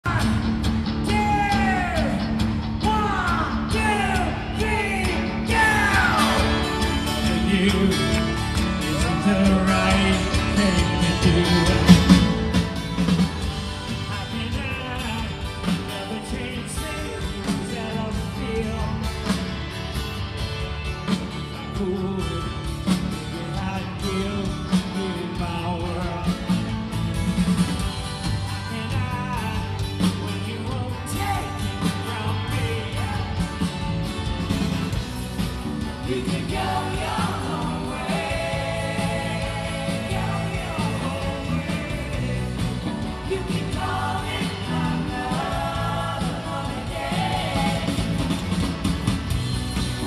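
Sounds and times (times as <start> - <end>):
man singing lead vocal: 0.0 - 12.6, 13.9 - 19.5, 21.5 - 26.7, 28.5 - 33.7, 35.7 - 48.5
live rock band playing: 0.0 - 50.0.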